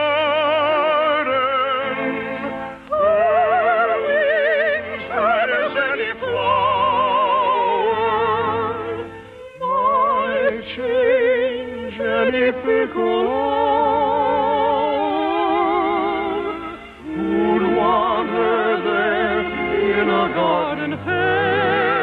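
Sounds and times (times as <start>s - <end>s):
person singing with vibrato: 0.0s - 22.0s.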